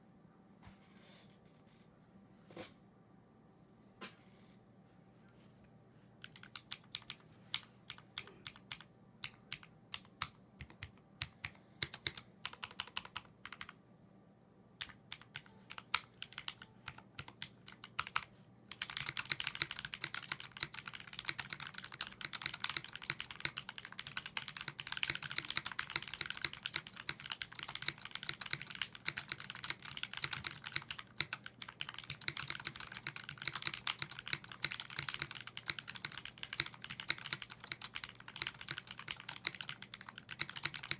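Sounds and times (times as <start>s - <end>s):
mechanical keyboard typing: 6.2s - 13.8s, 14.8s - 40.9s.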